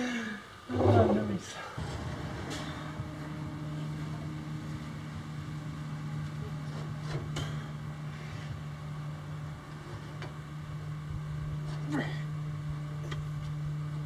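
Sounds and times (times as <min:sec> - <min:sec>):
planer humming: 0:01.8 - 0:14.0.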